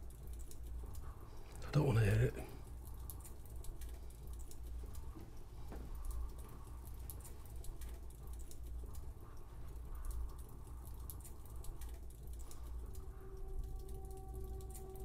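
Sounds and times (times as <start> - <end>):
light rain tapping on window: 0.0 - 15.0
low steady rumble: 0.0 - 15.0.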